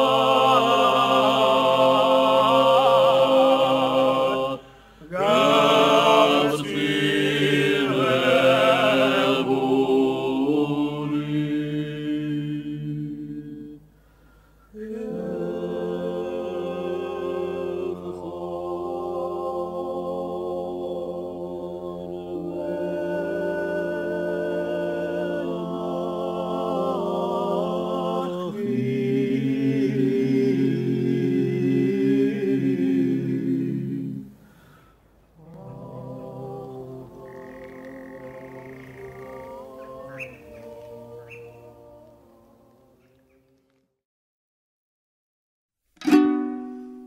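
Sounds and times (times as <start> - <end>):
choir singing sustained notes: 0.0 - 14.1, 14.7 - 34.8, 35.4 - 43.6.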